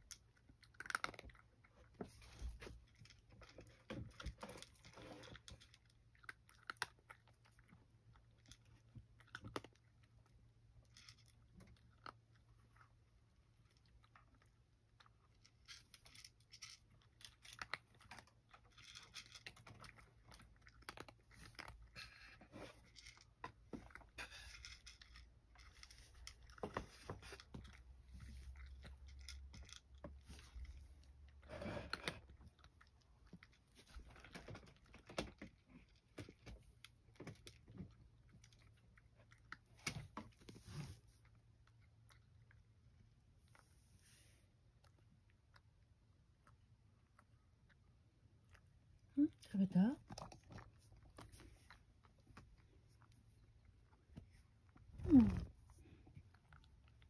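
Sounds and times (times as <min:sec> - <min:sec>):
cat crunching dry kibble: 0:00.0 - 0:57.0.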